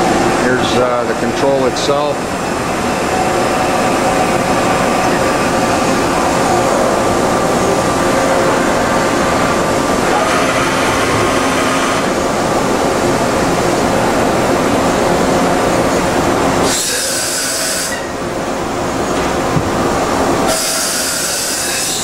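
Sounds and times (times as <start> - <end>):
plant machinery noise: 0.0 - 17.9
machining center running: 0.0 - 22.0.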